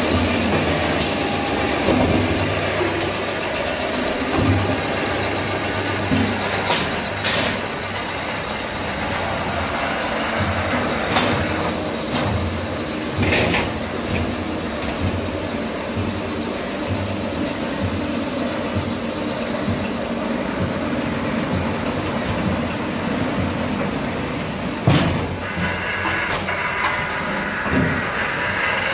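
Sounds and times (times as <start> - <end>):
motors and conveyors humming: 0.0 - 28.9.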